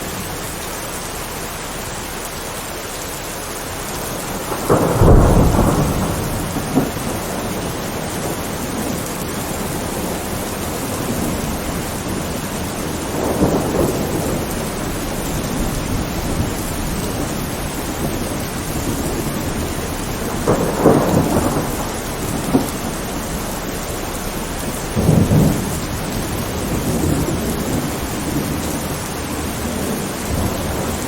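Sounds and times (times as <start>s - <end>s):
heavy rain: 0.0s - 31.0s
rolling thunder: 3.7s - 31.0s.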